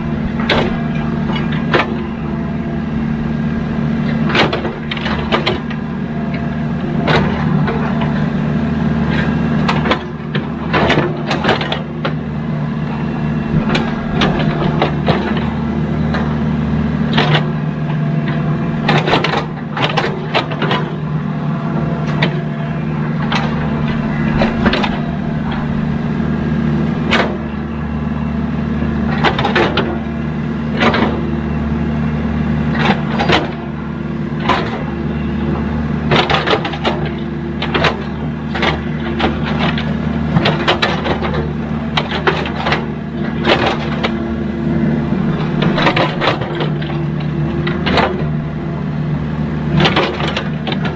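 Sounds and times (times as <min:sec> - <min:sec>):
machine clanks and knocks: 0:00.0 - 0:28.0, 0:30.7 - 0:31.2, 0:32.7 - 0:33.7, 0:34.4 - 0:34.9, 0:36.1 - 0:44.4, 0:45.0 - 0:48.6, 0:49.7 - 0:50.9
excavator diesel engine running: 0:00.0 - 0:50.9.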